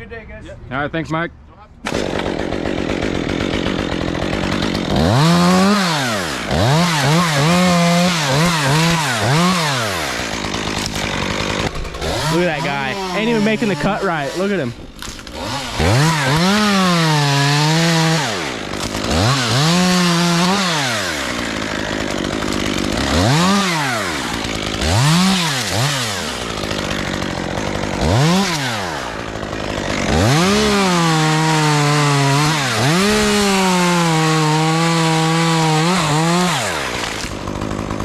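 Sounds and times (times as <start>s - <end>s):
chainsaw cutting wood: 1.8s - 38.0s
chainsaw revving: 1.9s - 38.0s.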